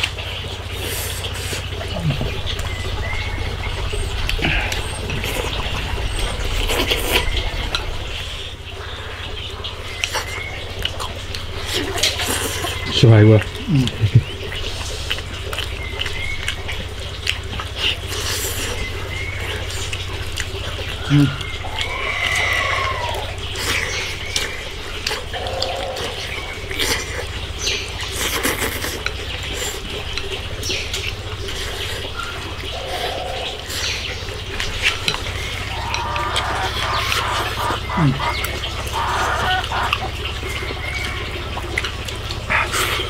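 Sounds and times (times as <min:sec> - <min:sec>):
low hum: 0:00.0 - 0:43.0
wet chewing and lip-smacking: 0:00.0 - 0:43.0.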